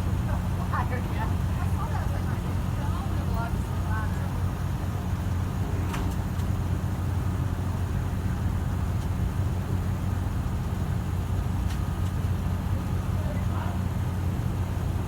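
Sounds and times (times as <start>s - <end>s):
diesel locomotive engine droning: 0.0s - 15.0s.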